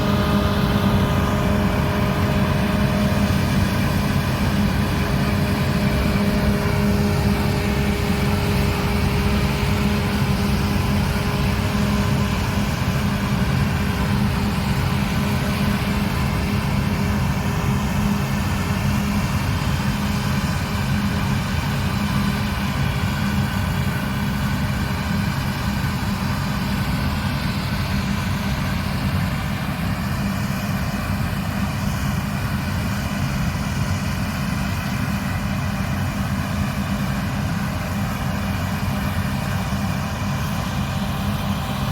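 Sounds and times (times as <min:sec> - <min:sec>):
diesel engine drone: 0:00.0 - 0:41.9.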